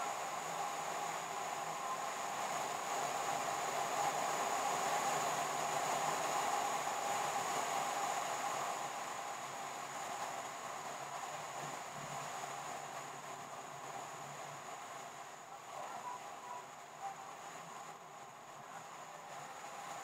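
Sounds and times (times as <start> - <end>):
car road and engine noise: 0.0 - 20.0
thin high whine: 0.0 - 20.0.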